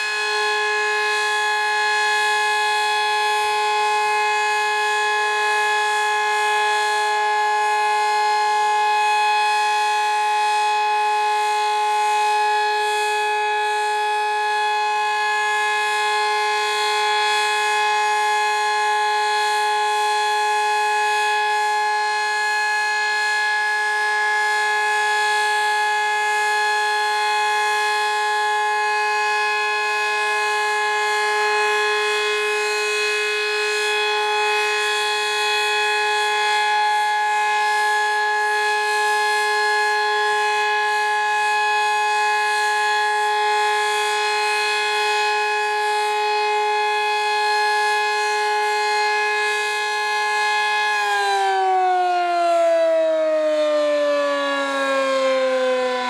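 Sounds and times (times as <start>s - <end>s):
tornado siren steady tone: 0.0s - 56.0s.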